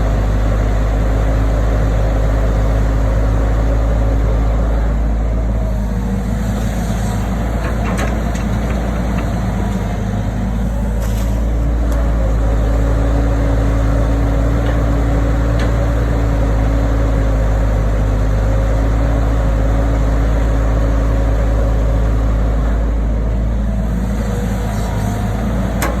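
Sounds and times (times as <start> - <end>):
heavy machinery diesel engine: 0.0 - 26.0.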